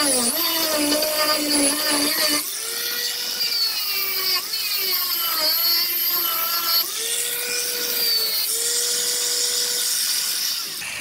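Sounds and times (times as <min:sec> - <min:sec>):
electric grinder grinding fiberglass: 0:00.0 - 0:11.0.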